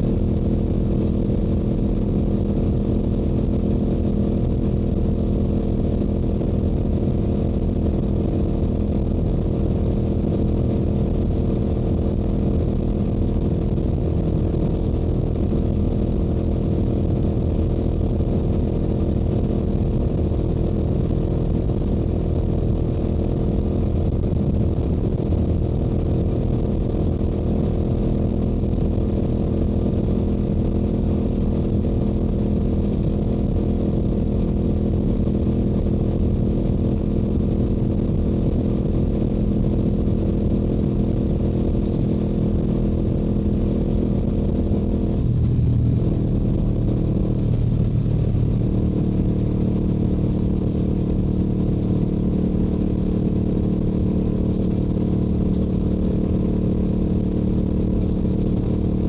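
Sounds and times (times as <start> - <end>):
motorcycle engine cruising: 0.0 - 52.4, 53.0 - 56.9.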